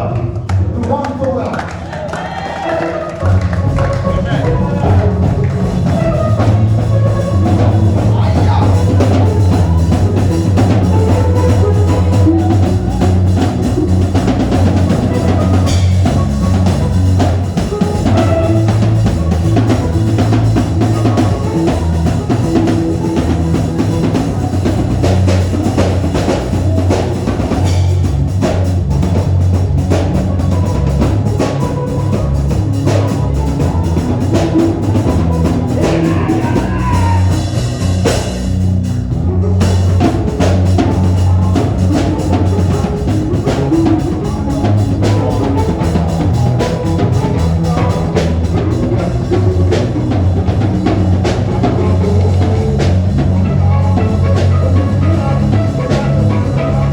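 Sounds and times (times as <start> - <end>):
drum kit beat: 0.0 - 56.9
sustained bass line: 3.1 - 56.9.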